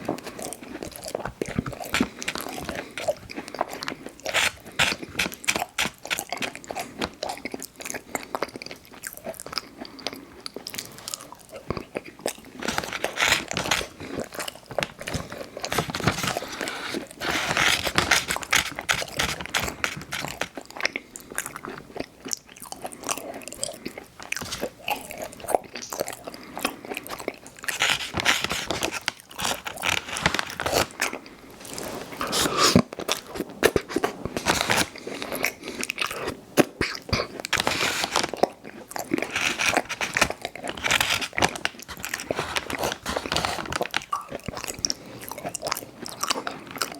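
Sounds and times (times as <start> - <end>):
biting and chewing cookies: 0.0 - 46.9.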